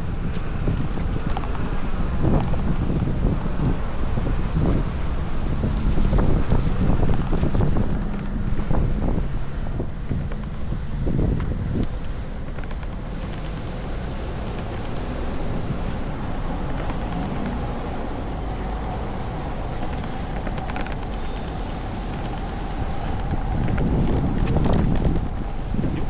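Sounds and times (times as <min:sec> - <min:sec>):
city street rumble: 0:00.0 - 0:26.0
wind on microphone: 0:00.0 - 0:26.0.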